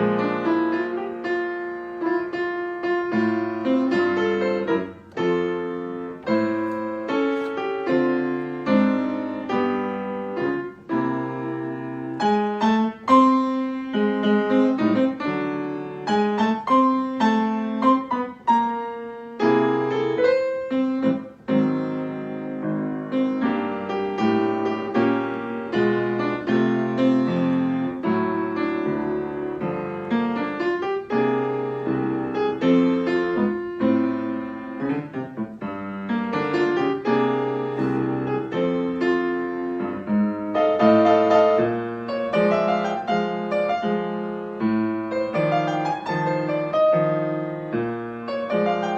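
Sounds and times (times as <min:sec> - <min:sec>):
solo piano melody: 0:00.0 - 0:48.9.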